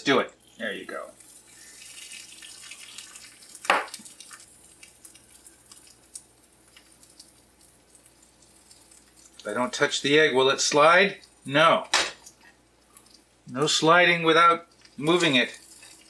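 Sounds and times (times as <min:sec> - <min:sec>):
butter sizzling in a pan: 0:00.4 - 0:11.6, 0:12.2 - 0:16.0.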